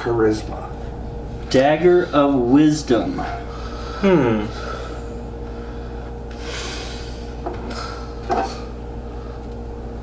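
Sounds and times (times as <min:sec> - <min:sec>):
faint hum: 0:00.0 - 0:10.0.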